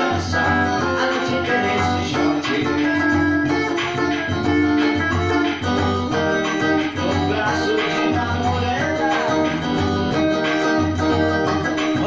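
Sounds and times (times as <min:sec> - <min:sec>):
backing track with bass and beat: 0:00.0 - 0:12.0
electric guitar melody: 0:00.0 - 0:12.0.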